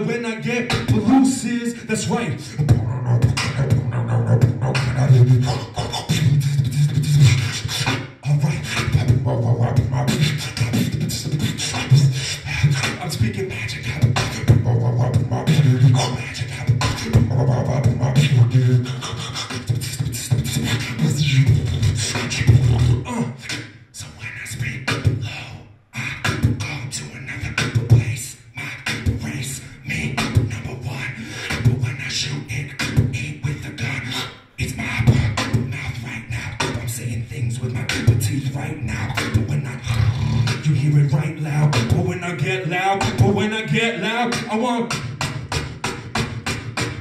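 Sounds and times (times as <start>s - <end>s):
beatboxing into a microphone: 0.0s - 47.0s.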